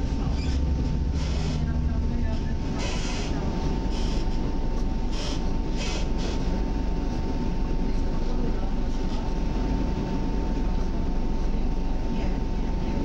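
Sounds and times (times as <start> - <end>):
thin constant whine: 0.0 - 13.0
train wheels rumbling on rail: 0.0 - 13.0.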